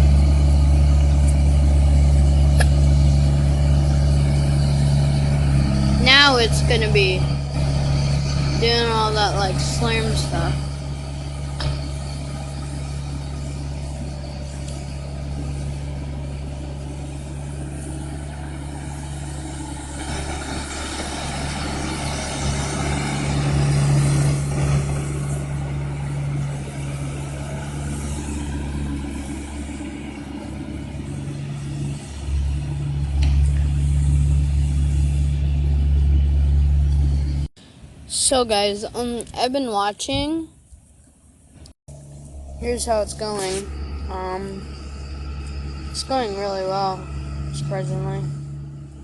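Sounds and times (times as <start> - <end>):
heavy machinery engines droning: 0.0 - 49.0.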